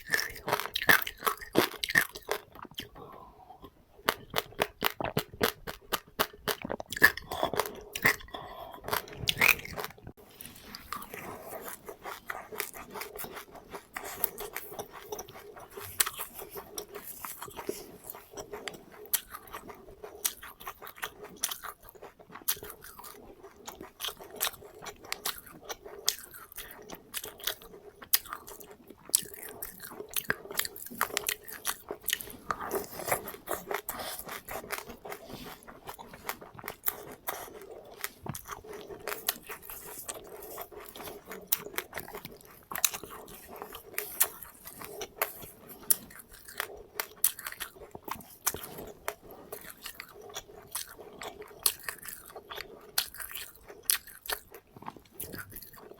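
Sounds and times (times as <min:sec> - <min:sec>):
person chewing and crunching seeds: 0:00.0 - 0:55.9.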